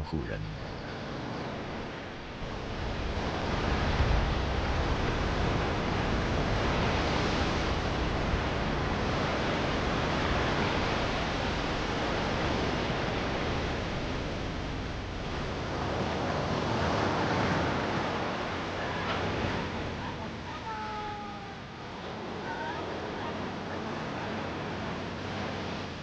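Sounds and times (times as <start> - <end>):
ocean surf: 0.0 - 26.0
wind on a beach: 0.0 - 26.0.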